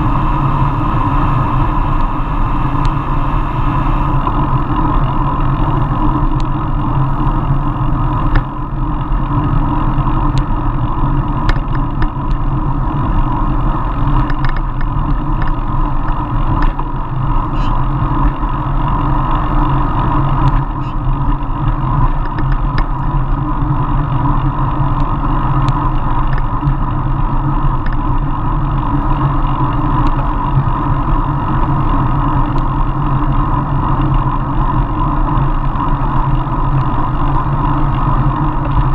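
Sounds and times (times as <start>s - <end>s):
bicycle tyre rumble: 0.0s - 38.9s
wind noise: 0.0s - 38.9s.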